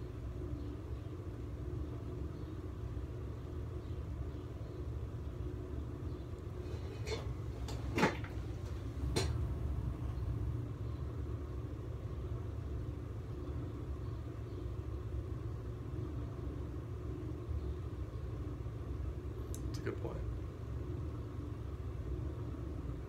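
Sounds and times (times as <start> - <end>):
faint hum: 0.0 - 23.0
low mechanical rumble: 0.0 - 23.0.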